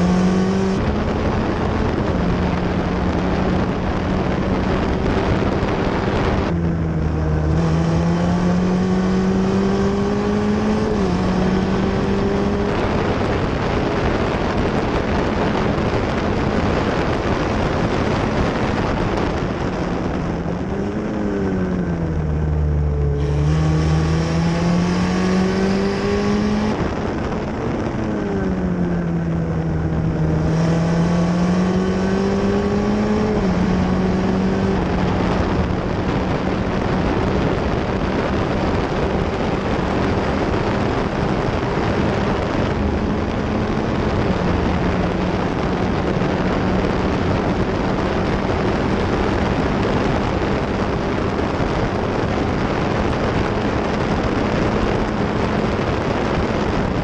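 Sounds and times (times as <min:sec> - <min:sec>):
race car engine revving: 0:00.0 - 0:57.0
wind and road noise: 0:00.0 - 0:57.0.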